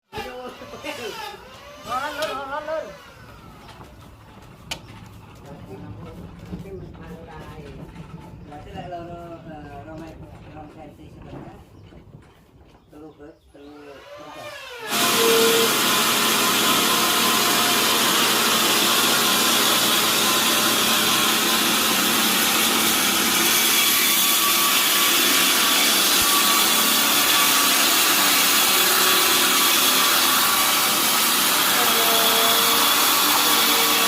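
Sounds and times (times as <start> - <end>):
sawmill saw cutting log: 0.1 - 11.0, 13.7 - 34.0.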